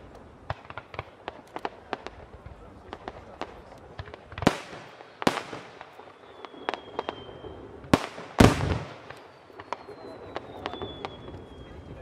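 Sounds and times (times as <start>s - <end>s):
firework pops and crackles: 0.0s - 12.0s
firework shells bursting: 0.4s - 11.6s.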